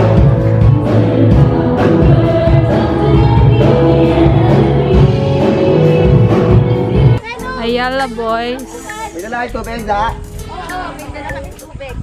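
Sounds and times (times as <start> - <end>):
music with singing: 0.0 - 12.0.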